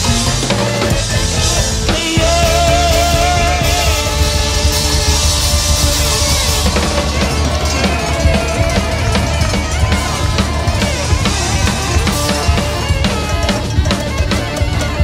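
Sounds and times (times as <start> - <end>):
drum kit: 0.0 - 15.0
heavy bass: 0.0 - 15.0.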